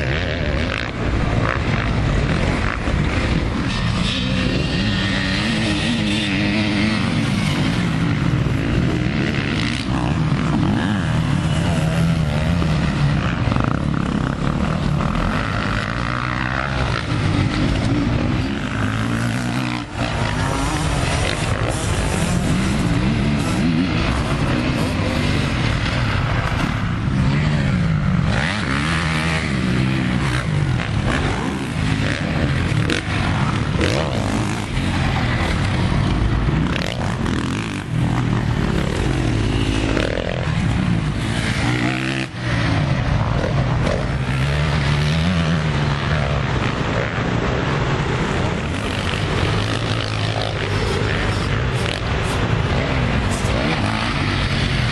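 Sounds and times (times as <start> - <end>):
dirt bike engines revving: 0.0 - 54.9.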